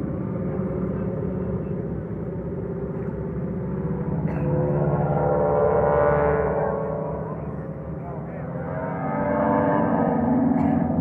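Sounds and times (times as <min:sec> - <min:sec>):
aircraft engine droning overhead: 0:00.0 - 0:11.0.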